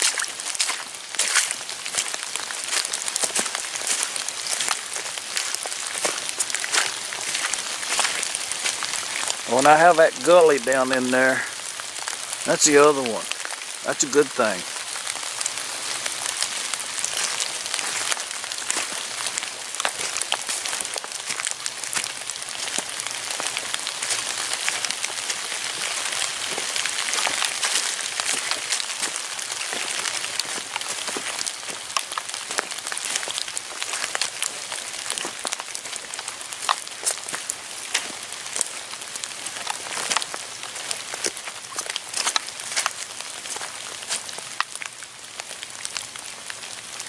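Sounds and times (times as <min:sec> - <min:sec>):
rain falling on leaves: 0:00.0 - 0:47.0.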